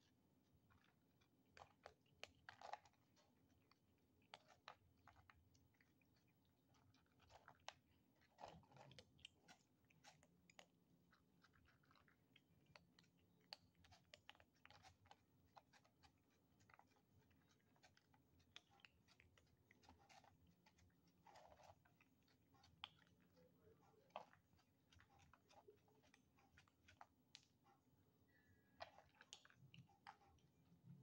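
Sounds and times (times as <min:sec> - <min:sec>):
kittens crunching dry kibble: 0:00.0 - 0:31.0.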